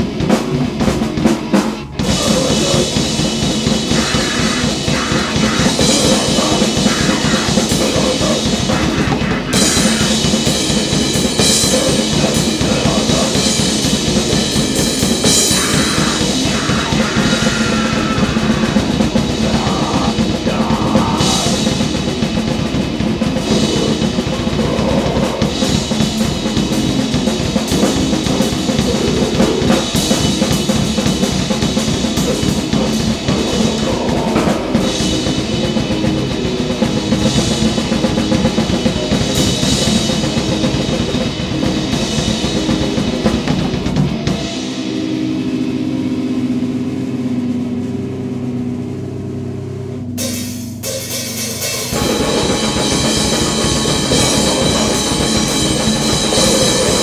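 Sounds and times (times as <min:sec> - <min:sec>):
fast dense drumming: 0:00.0 - 0:45.2, 0:50.2 - 0:57.0
distorted guitar and bass: 0:00.0 - 0:57.0
noise band playing: 0:00.0 - 0:57.0.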